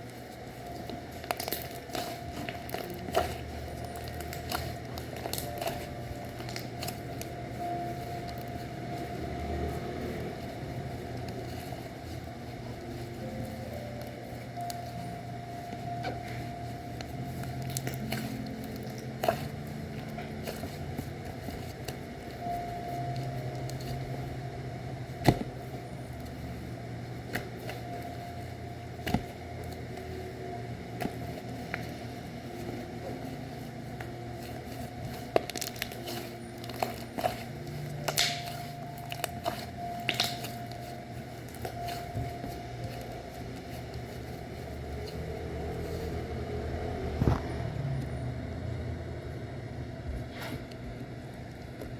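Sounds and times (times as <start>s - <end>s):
low background hum: 0.0s - 51.9s.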